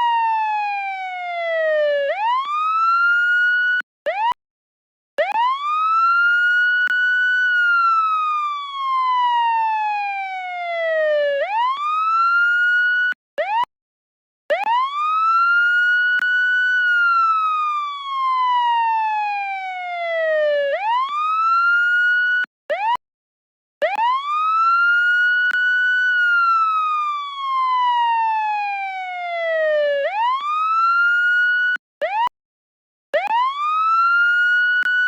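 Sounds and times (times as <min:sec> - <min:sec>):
police siren wailing: 0:00.0 - 0:04.4, 0:05.2 - 0:13.7, 0:14.5 - 0:23.0, 0:23.8 - 0:32.3, 0:33.2 - 0:35.0.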